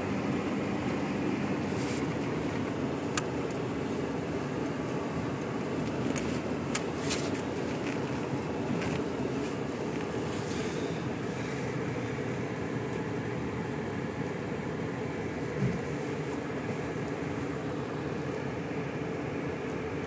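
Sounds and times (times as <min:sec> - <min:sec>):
car driving on snowy road: 0:00.0 - 0:20.0.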